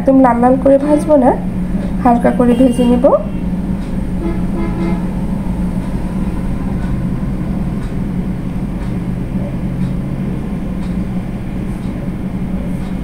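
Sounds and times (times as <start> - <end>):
gas burner low hum: 0.0 - 13.0.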